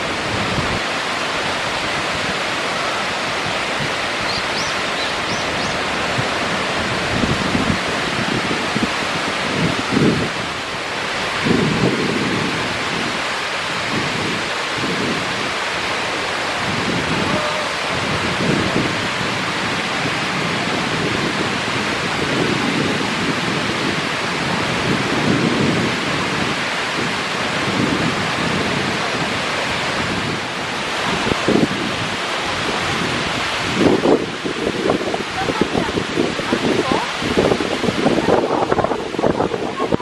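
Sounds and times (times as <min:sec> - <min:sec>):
waterfall rushing over rock: 0:00.0 - 0:40.0.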